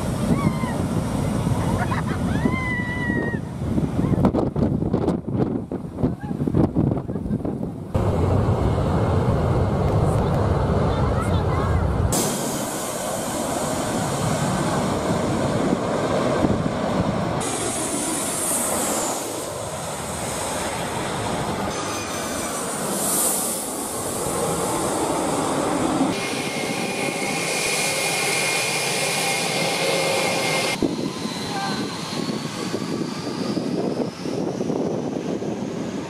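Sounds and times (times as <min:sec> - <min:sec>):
jet engines rushing and whining: 0:00.0 - 0:36.0.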